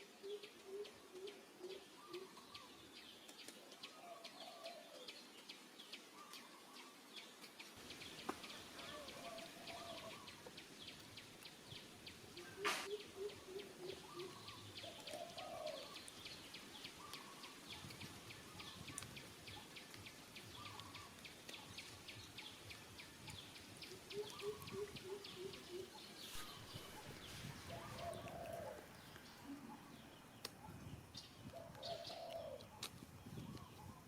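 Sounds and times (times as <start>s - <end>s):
birds chirping: 0.2s - 34.0s.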